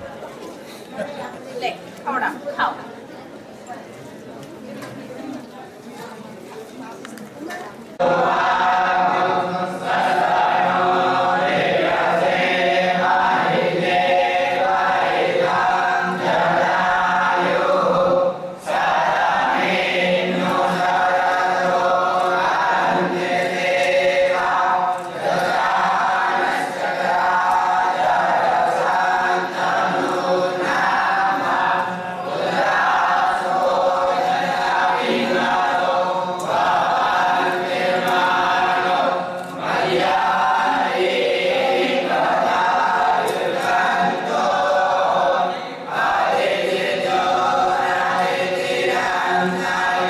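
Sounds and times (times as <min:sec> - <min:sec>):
group chanting: 0:08.0 - 0:50.0.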